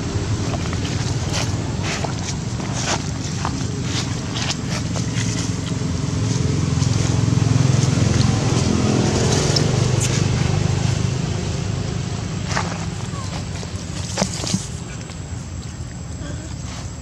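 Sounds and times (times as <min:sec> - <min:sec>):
vehicle engine passing: 0:00.0 - 0:15.5
dry leaves crackling: 0:00.0 - 0:17.0.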